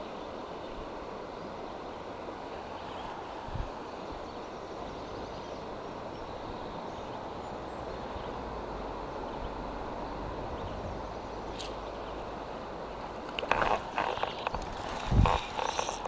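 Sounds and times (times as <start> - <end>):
high scratchy hiss: 0.0 - 16.0
river current rushing: 0.0 - 16.0.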